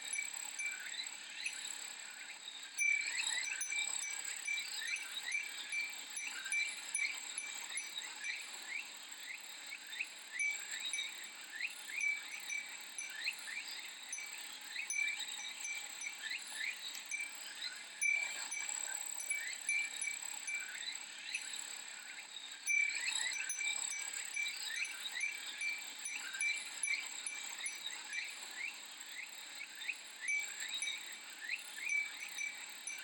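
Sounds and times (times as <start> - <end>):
wind chime tinkling: 0.0 - 1.6, 2.8 - 8.7, 10.3 - 21.5, 22.7 - 28.8, 30.2 - 33.0
cicadas droning and chirping: 0.0 - 33.0.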